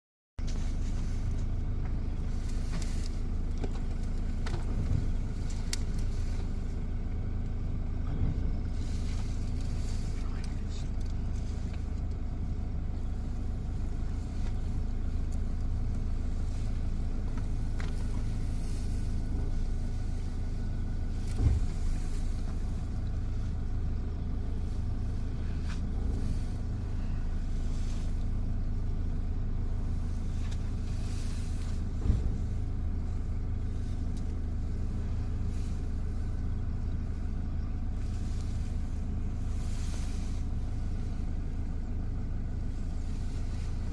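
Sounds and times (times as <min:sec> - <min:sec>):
vehicle engine idling: 0:00.4 - 0:43.9.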